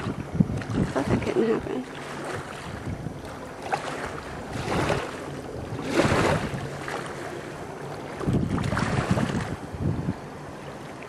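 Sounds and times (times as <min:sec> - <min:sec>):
wind buffeting microphone: 0:00.0 - 0:10.8
watercraft engine humming: 0:00.0 - 0:11.0.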